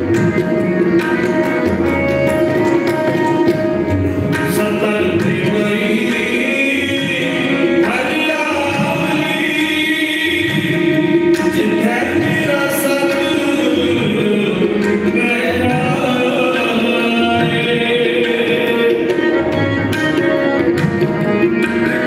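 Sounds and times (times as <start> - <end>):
harmonium chords: 0.0 - 22.0
tabla rhythm: 0.0 - 22.0.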